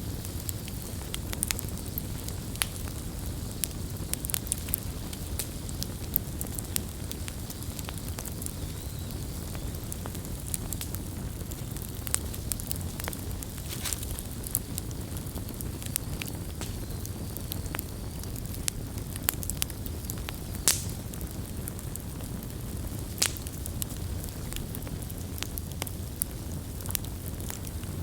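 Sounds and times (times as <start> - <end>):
campfire crackling and popping: 0.0 - 28.0
campfire flames rumbling: 0.0 - 28.0.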